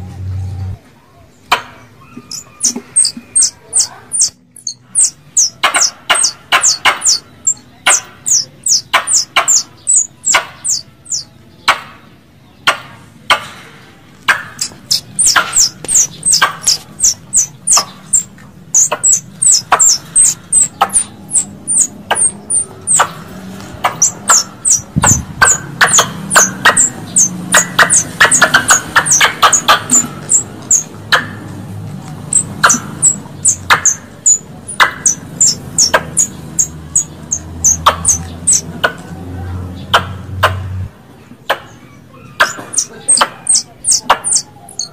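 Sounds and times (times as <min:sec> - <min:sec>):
squirrel chattering calls: 0:01.5 - 0:11.9, 0:14.1 - 0:44.9.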